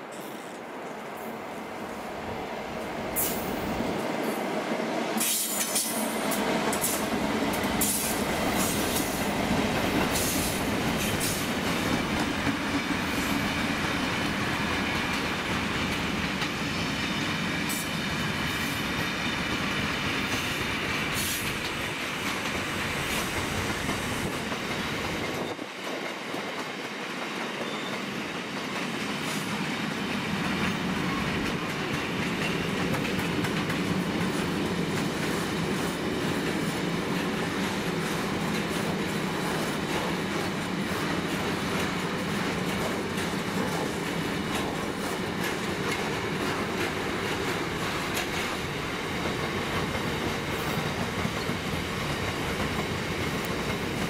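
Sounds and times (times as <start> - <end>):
freight train wheels rumbling: 0.0 - 54.0
clickety-clack over rail joints: 5.1 - 54.0.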